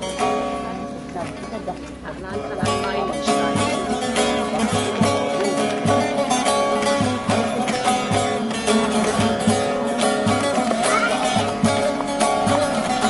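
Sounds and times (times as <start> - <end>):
long-necked lute melody: 0.0 - 13.0.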